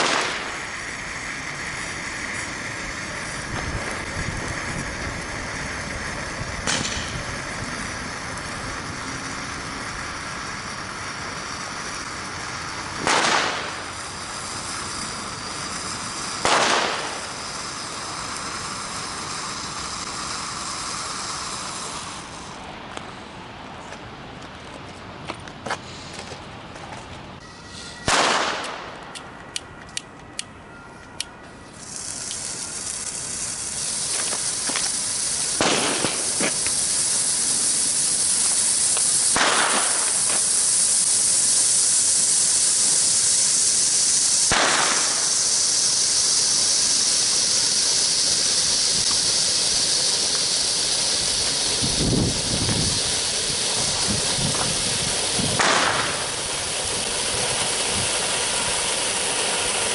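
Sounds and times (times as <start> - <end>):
firework bangs: 0.0 - 22.5, 28.0 - 29.0, 31.8 - 59.9
hiss of burning firework: 0.0 - 24.2, 25.6 - 26.4, 27.4 - 29.1, 31.5 - 59.9.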